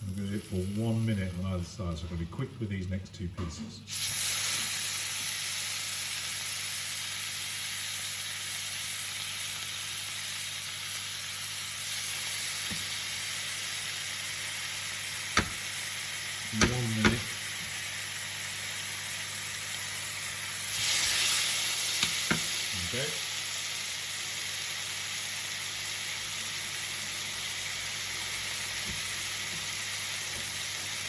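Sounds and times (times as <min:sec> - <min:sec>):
steak sizzling in a pan: 0:00.0 - 0:01.7, 0:03.9 - 0:31.0.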